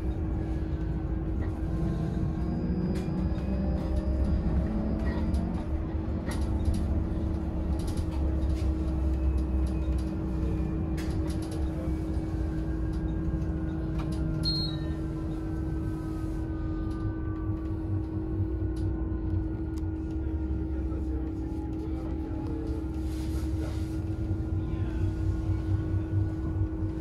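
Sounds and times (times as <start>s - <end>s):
bus road rumble: 0.0s - 27.0s
constant hum: 0.0s - 27.0s.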